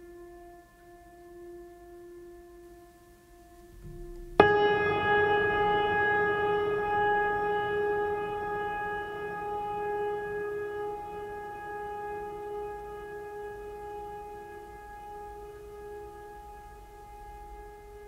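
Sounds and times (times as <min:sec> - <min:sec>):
loud sustained tone rich in overtones: 0:00.0 - 0:18.0.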